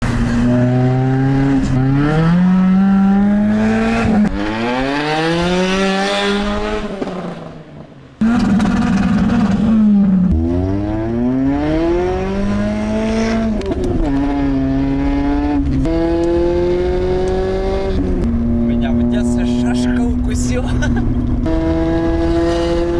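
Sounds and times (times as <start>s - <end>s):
car engine accelerating hard: 0.0s - 7.5s, 8.2s - 22.9s.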